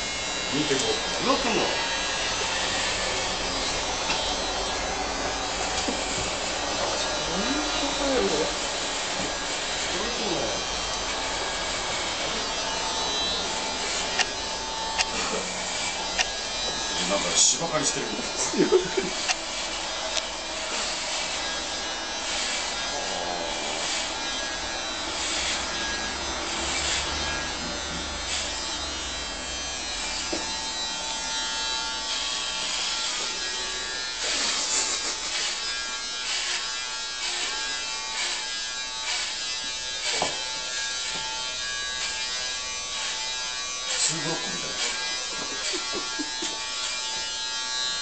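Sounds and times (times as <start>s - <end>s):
electric hair clippers buzzing: 0.0s - 48.0s.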